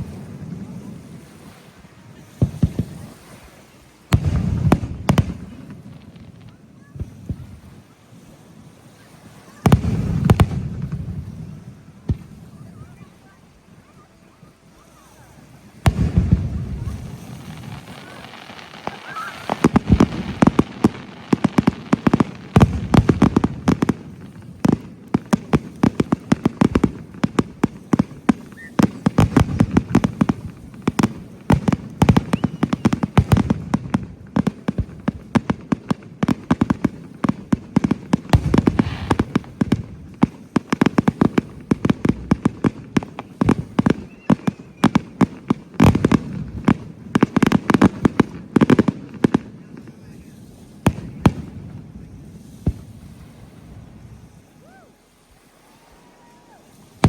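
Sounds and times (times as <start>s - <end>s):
fireworks crackling pops and bangs: 0.0s - 57.0s
firework booms: 2.2s - 3.4s, 4.1s - 7.7s, 9.6s - 13.1s, 15.0s - 54.8s.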